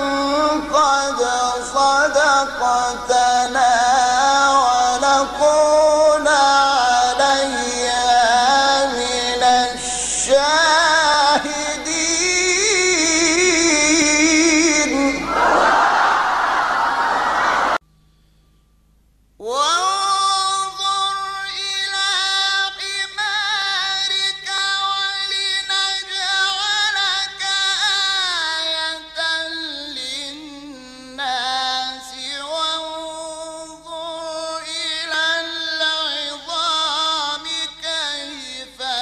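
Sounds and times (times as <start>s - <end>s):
man chanting recitation: 0.0s - 15.4s, 19.4s - 39.0s.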